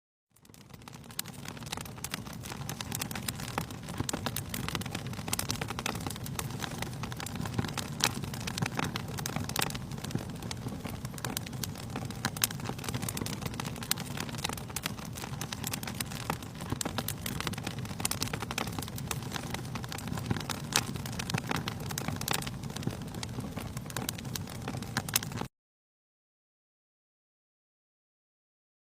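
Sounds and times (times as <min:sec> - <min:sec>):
wood fire crackling and popping: 0:00.3 - 0:25.5
low rumble of flames: 0:00.4 - 0:25.5.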